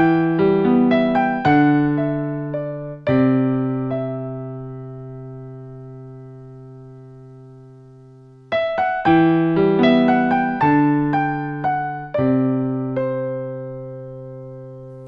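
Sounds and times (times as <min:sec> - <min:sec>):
slow piano ballad: 0:00.0 - 0:15.0.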